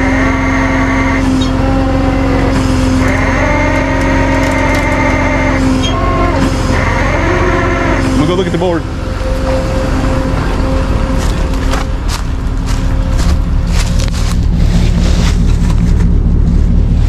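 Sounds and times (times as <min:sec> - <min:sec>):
hydraulic winch whine: 0:00.0 - 0:17.0
truck engine droning: 0:00.0 - 0:17.0.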